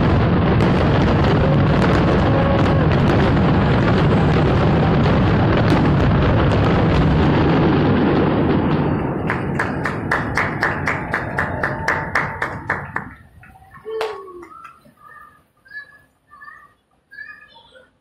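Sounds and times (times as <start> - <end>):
fireworks bursting: 0.0 - 17.5.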